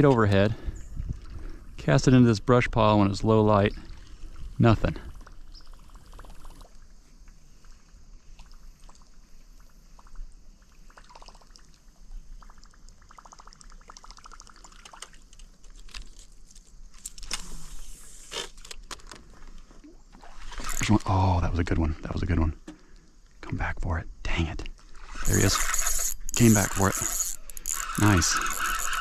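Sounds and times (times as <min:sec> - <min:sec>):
water gurgling and trickling: 0:00.0 - 0:15.7, 0:19.2 - 0:23.6, 0:24.3 - 0:29.0.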